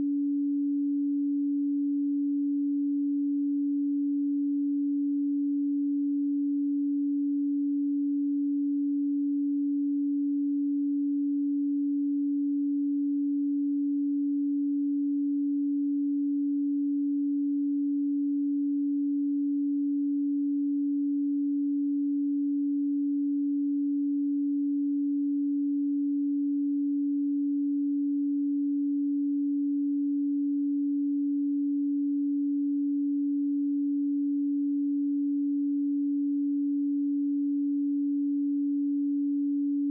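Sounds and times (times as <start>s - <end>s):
low sine tone: 0.0s - 39.9s.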